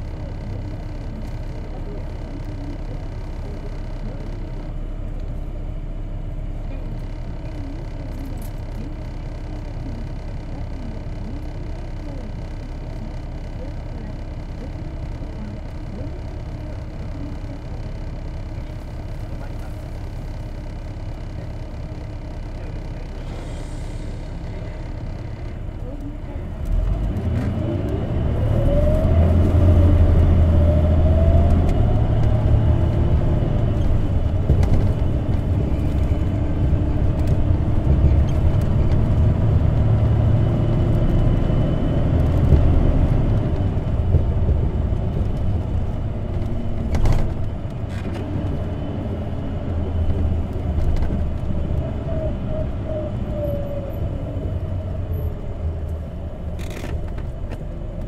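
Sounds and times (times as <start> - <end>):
bus engine and drivetrain rumble: 0.0 - 58.0
drivetrain whine: 0.0 - 58.0.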